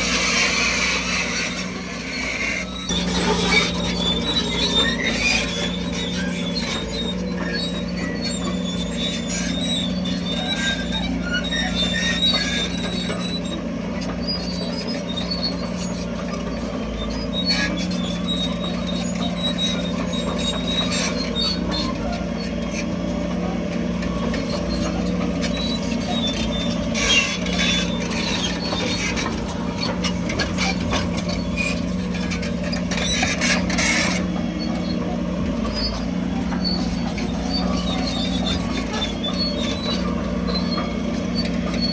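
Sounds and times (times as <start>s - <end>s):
bulldozer diesel engine: 0.0s - 41.9s
crawler tracks squeaking and clattering: 0.0s - 41.9s.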